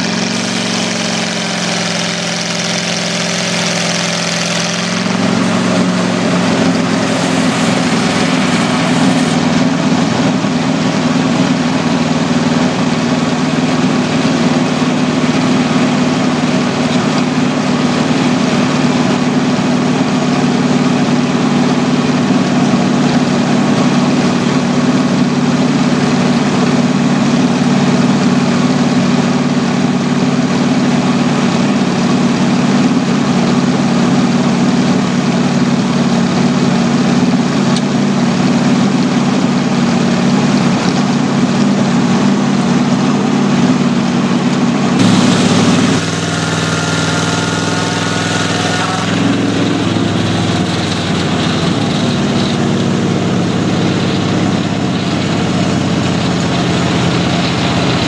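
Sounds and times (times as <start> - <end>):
car engine running steadily: 0.0 - 58.0.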